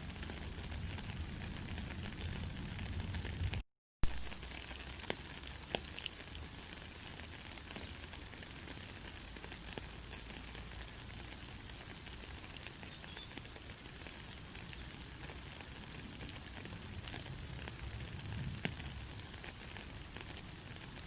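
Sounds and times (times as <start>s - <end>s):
faint crackles: 0.0s - 21.0s.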